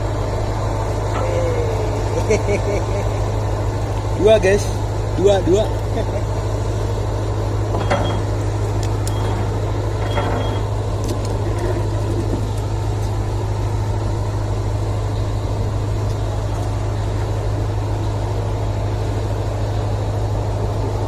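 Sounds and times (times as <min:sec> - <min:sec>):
ship machinery humming: 0:00.0 - 0:21.0.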